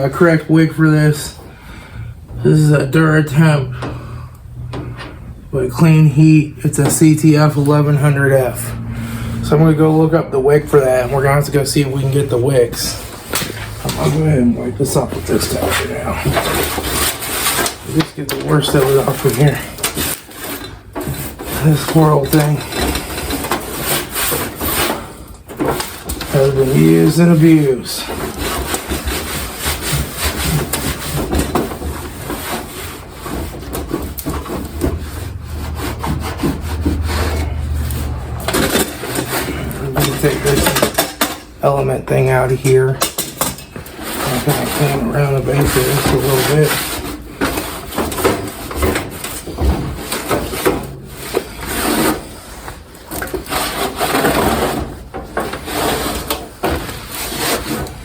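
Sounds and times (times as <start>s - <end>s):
towel scrubbing metal: 2.2s - 58.0s.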